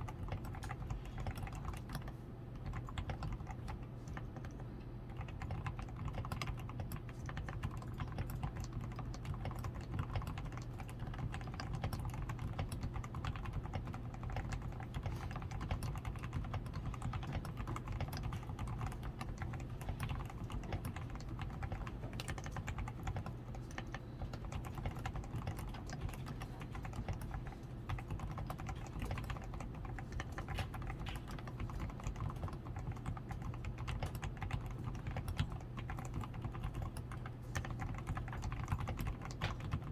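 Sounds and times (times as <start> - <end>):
mechanical keyboard typing: 0.0 - 39.9
steady low hum: 0.0 - 39.9.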